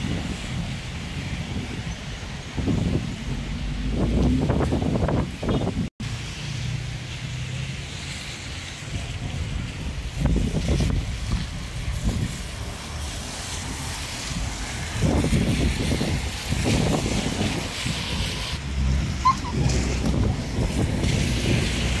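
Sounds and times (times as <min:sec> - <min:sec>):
wind buffeting microphone: 0:00.0 - 0:05.9, 0:08.9 - 0:22.0
traffic on wet roads: 0:00.0 - 0:22.0.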